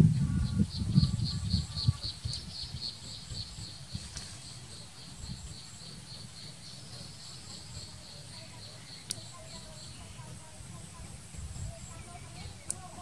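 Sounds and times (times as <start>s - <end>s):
insects chirping: 0.4s - 13.0s.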